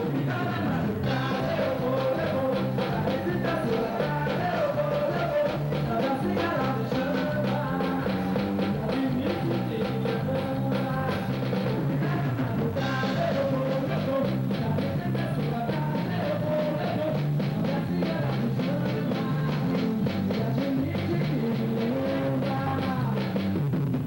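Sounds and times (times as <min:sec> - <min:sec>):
band playing music: 0:00.0 - 0:24.0
drum kit steady beat: 0:00.0 - 0:24.0.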